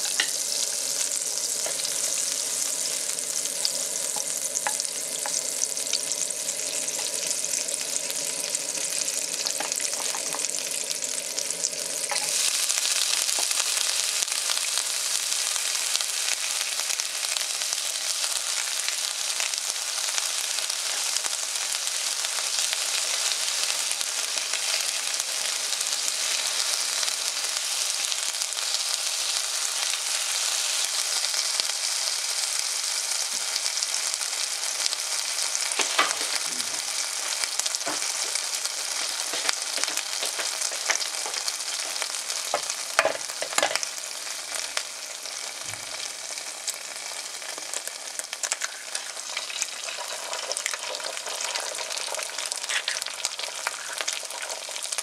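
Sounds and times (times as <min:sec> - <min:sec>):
garlic sizzling in oil: 0:00.0 - 0:55.0.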